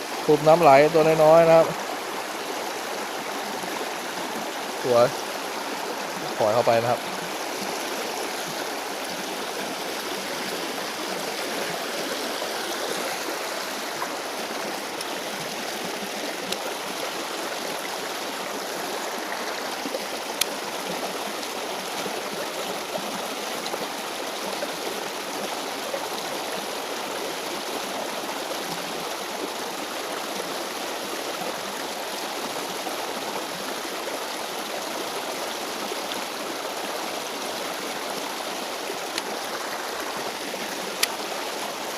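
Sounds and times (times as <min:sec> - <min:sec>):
stream water running: 0:00.0 - 0:41.9.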